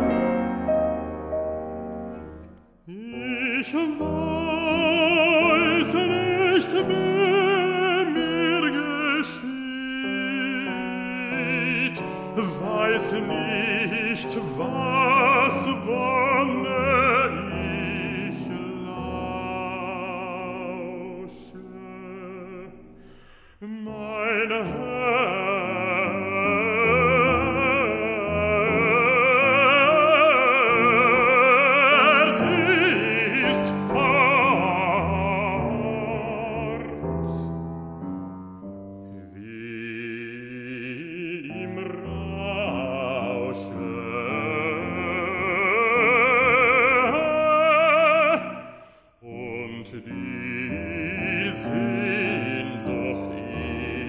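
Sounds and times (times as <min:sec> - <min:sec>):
man singing classical song: 0:00.0 - 0:54.0
piano: 0:00.0 - 0:54.0.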